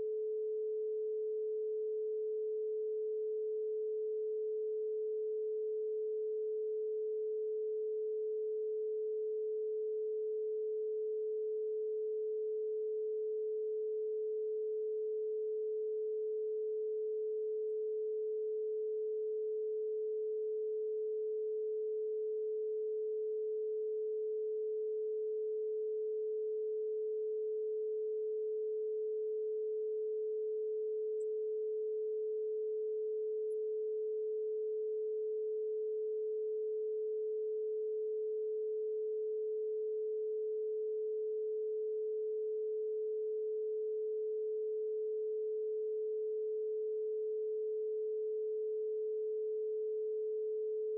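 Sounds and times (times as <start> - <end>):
steady electronic sine tone: 0.0 - 50.9.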